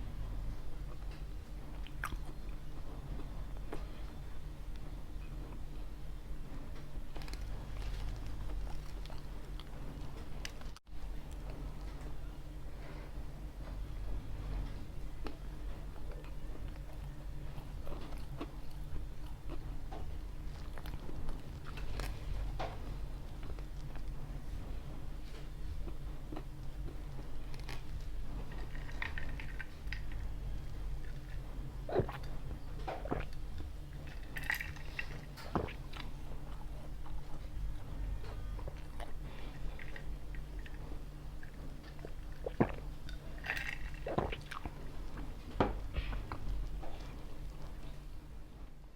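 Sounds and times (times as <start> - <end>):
steady low hum: 0.0 - 48.9
chewing and biting pizza: 0.9 - 4.2, 7.1 - 12.2, 14.5 - 48.1.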